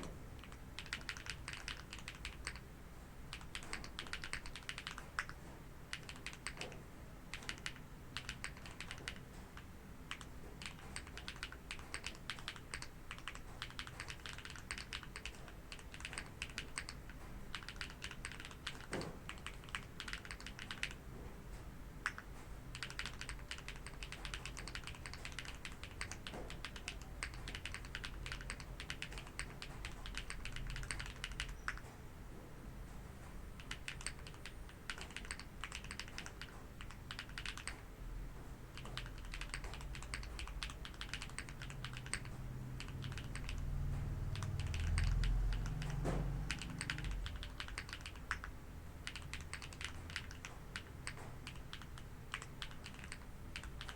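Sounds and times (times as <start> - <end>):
mechanical keyboard typing: 0.0 - 2.7, 3.3 - 21.0, 22.0 - 31.9, 33.5 - 37.9, 38.6 - 53.9.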